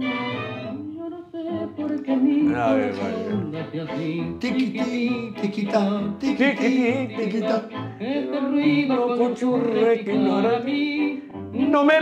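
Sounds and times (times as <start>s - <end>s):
tango-style instrumental accompaniment: 0.0s - 12.0s
man singing with vibrato: 0.7s - 12.0s.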